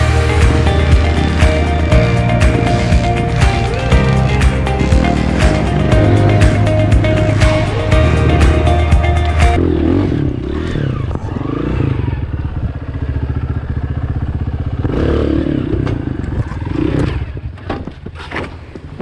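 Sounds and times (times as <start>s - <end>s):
dirt bike engine low revs: 0.0s - 17.6s.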